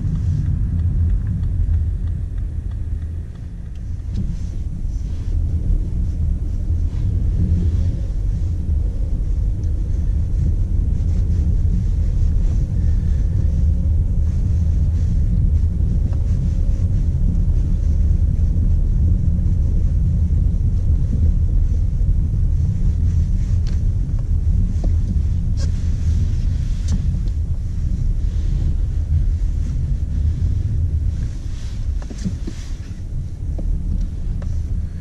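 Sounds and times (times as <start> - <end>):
car engine and tyre rumble: 0.0 - 35.0.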